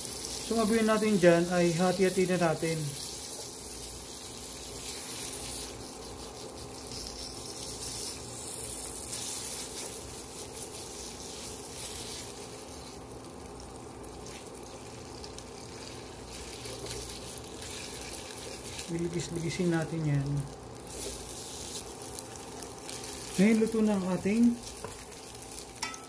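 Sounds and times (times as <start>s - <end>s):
low steady hum: 0.0s - 26.0s
sausage sizzling in oil: 0.0s - 26.0s.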